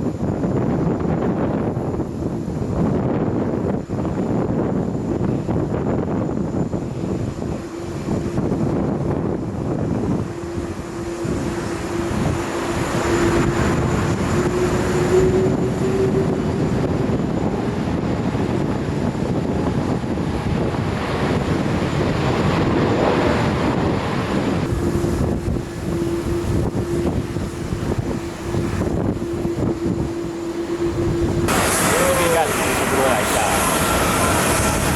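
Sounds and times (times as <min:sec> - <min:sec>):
jet airliner engines passing: 0:00.0 - 0:34.9.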